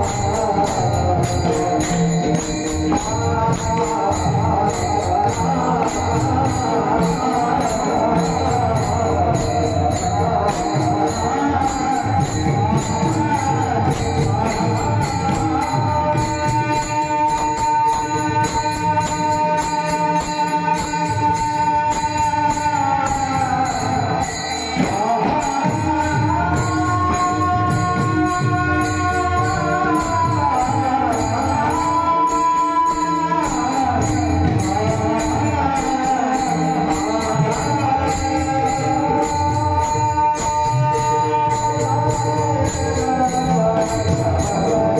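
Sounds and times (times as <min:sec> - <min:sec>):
devotional song melody: 0:00.0 - 0:44.9
hand cymbals jingling: 0:00.0 - 0:44.9.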